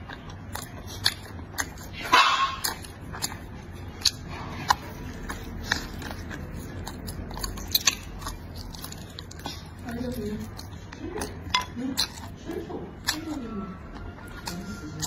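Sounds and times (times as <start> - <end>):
person biting and chewing: 0.0 - 15.0.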